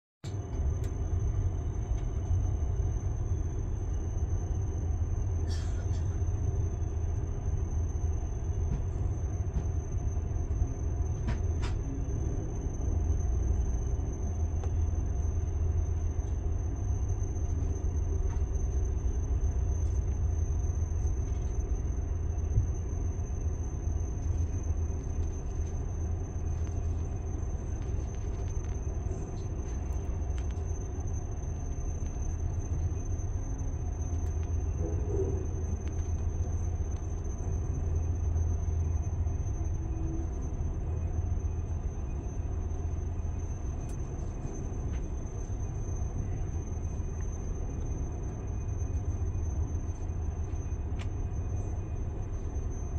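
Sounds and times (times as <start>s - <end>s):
train car rumble: 0.2s - 52.9s
thin high whine: 0.9s - 52.9s.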